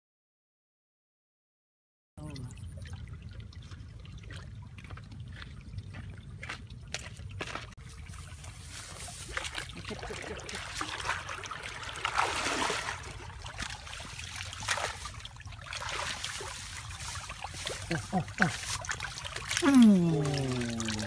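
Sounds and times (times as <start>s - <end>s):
water splashing and trickling: 2.2s - 21.0s.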